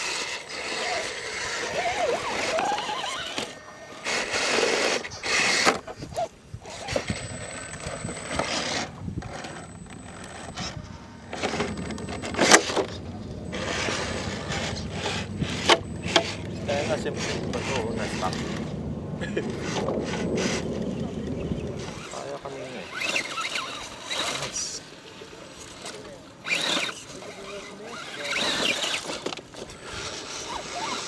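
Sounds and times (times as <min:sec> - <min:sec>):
electric motor and gears whining: 0:00.0 - 0:31.0.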